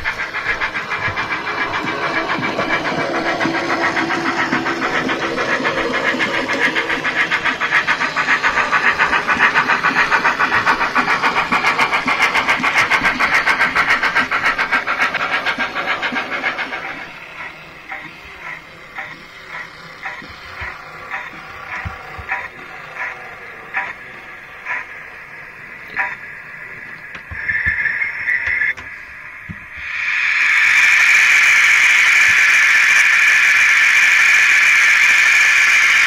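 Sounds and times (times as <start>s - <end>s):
model train motor growling: 0.0s - 36.0s.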